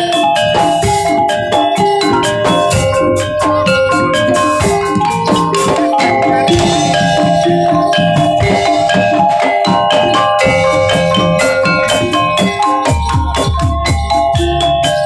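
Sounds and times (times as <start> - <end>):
gamelan ensemble with drums: 0.0 - 15.0.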